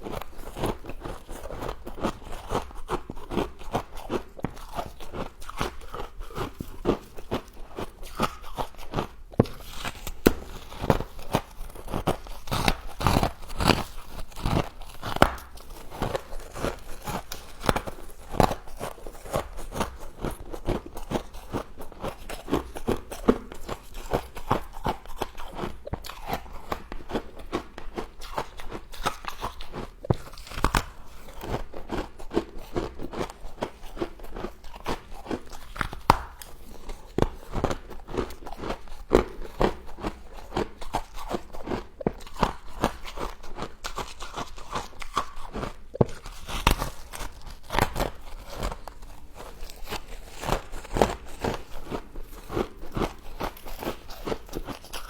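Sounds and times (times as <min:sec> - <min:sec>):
chewing crunchy ice: 0:00.0 - 0:55.0.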